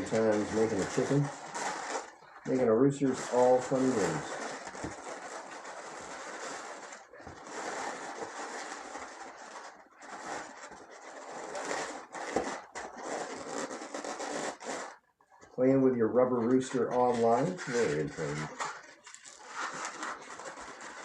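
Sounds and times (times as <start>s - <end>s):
balloons rubbing and scraping: 0.0s - 21.0s.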